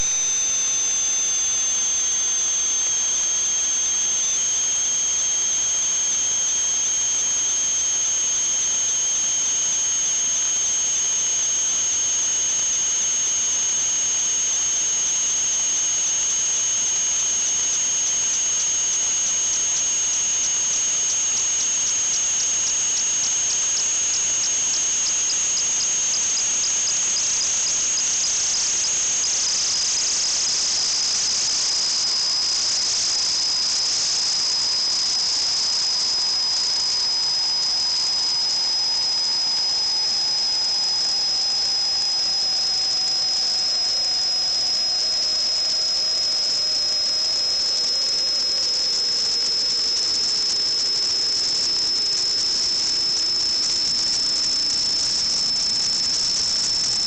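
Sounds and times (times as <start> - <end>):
high-pitched two-tone whistle: 0.0 - 29.5, 38.4 - 57.0.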